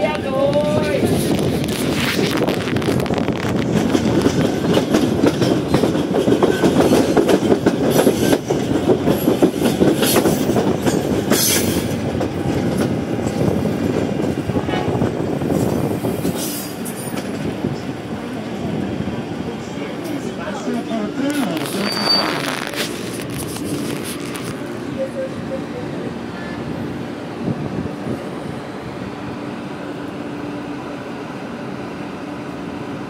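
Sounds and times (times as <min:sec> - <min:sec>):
train wheels rattling on rails: 0:00.0 - 0:30.8.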